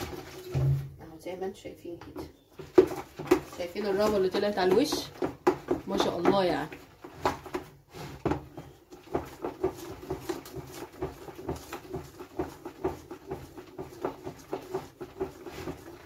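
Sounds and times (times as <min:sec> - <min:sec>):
liquid soap sloshing in bucket: 0:00.0 - 0:01.0, 0:02.5 - 0:16.0.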